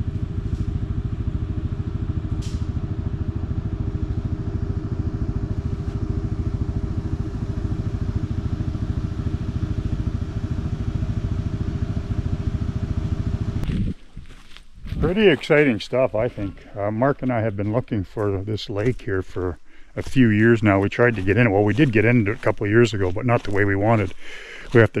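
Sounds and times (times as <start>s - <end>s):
atv engine rumbling: 0.0s - 25.0s.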